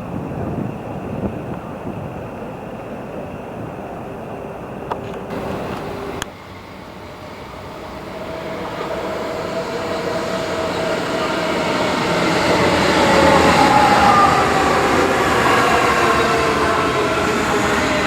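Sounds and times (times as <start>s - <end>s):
train rumbling and whining: 0.0s - 18.0s.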